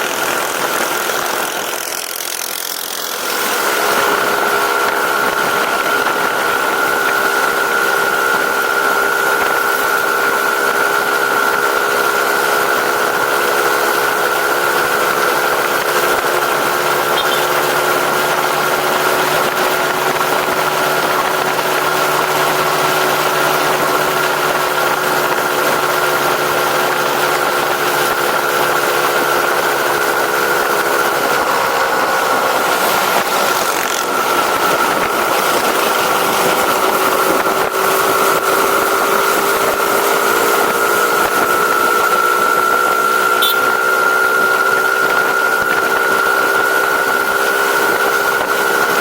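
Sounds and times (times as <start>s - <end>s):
continuous rushing noise: 0.0s - 49.0s
vehicle engine running: 0.0s - 49.0s.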